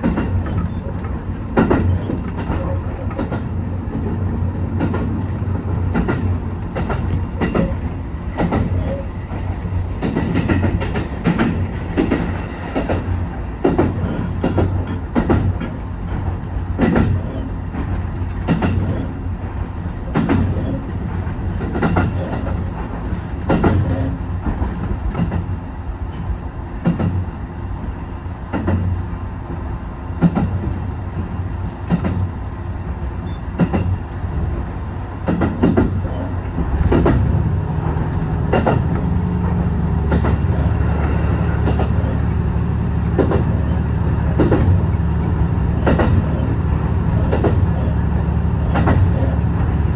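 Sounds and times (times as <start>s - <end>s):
train wheel clicks over rail joints: 0.0s - 27.2s, 28.5s - 34.0s, 35.2s - 42.3s, 43.0s - 49.8s
train running hum: 0.0s - 49.9s.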